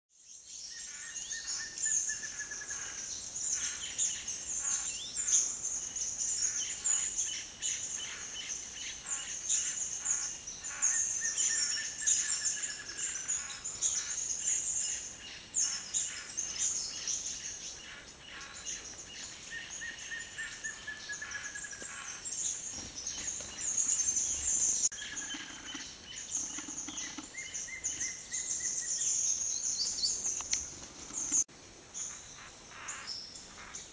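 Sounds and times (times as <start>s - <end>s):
birds chirping and trilling: 0.3s - 33.9s.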